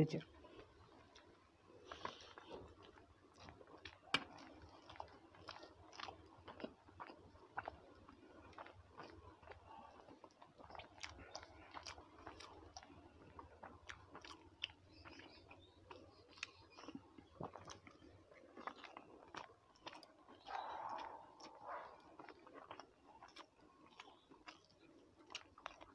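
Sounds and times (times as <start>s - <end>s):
chewing and wet mouth clicks: 0.5s - 25.9s.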